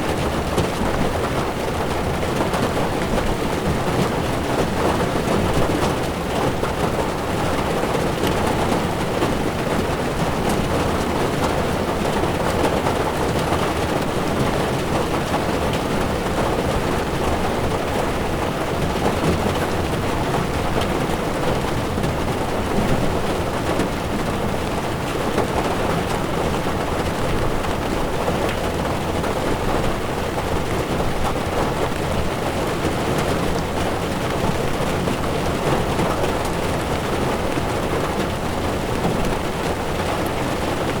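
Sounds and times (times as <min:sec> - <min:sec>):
heavy rain drumming on car: 0:00.0 - 0:41.0
tyres on wet road: 0:00.0 - 0:41.0.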